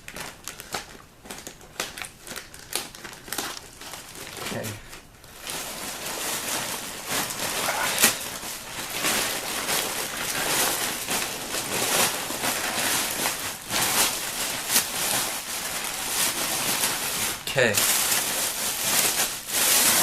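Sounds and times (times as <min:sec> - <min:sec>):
plastic packaging crinkling and ripping: 0:00.0 - 0:20.0.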